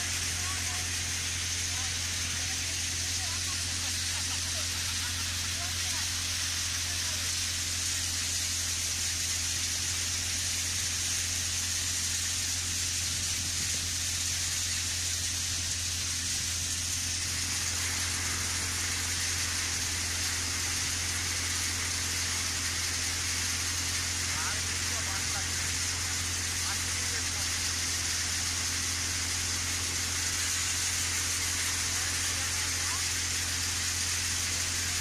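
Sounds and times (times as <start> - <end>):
grain thresher humming: 0.0 - 35.0.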